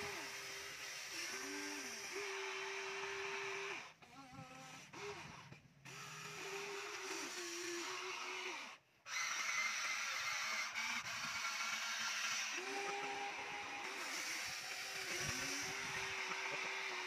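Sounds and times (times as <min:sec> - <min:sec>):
toy excavator motors whining: 0:00.0 - 0:17.0.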